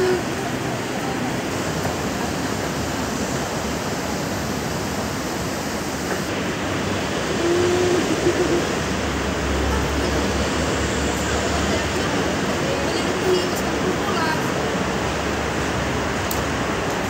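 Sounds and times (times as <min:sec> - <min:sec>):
faint voices: 0:00.0 - 0:06.3, 0:07.3 - 0:15.1
station concourse rushing noise: 0:00.0 - 0:17.0.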